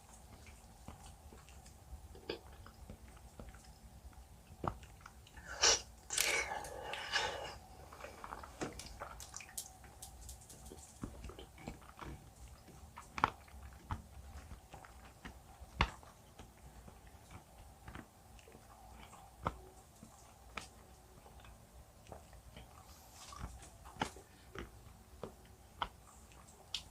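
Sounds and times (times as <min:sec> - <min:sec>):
person chewing gummy jelly: 0:00.0 - 0:26.9.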